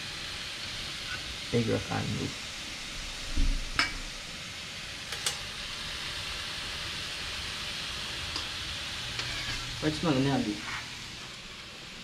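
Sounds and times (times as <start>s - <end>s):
fish sizzling on grill pan: 0.0s - 12.0s.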